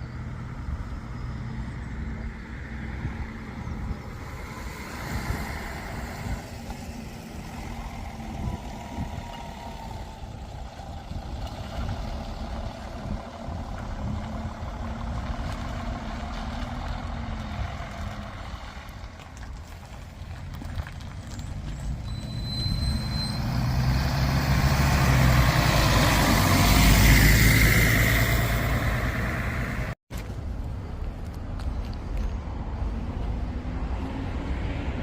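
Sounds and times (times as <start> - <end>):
bus engines running: 0.0 - 35.0
road traffic passing: 0.0 - 35.0.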